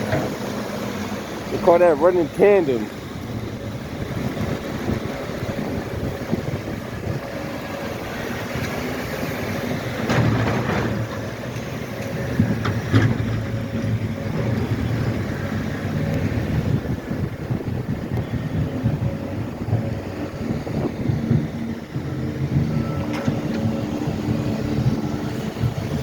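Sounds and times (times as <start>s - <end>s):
truck engines rumbling: 0.0s - 26.0s.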